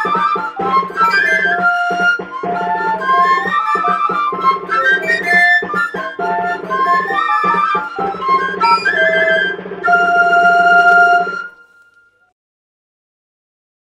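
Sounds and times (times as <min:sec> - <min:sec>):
ensemble of pipes playing: 0:00.0 - 0:12.3.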